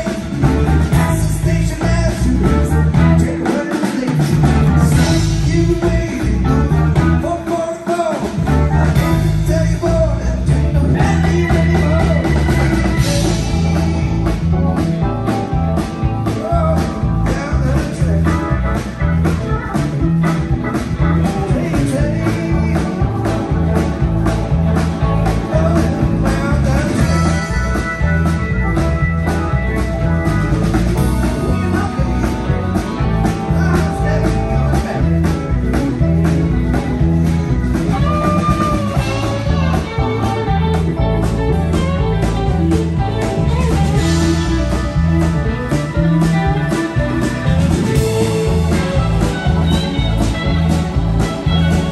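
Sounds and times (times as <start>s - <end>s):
drum kit: 0.0s - 51.9s
electric bass: 0.0s - 51.9s
electric guitar: 0.0s - 51.9s
organ: 0.0s - 51.9s.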